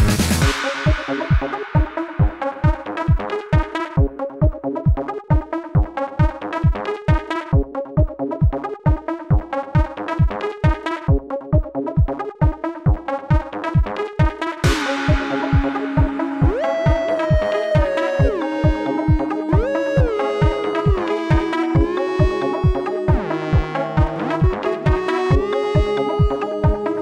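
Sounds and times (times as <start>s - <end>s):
electronic music with kick drum: 0.0s - 27.0s.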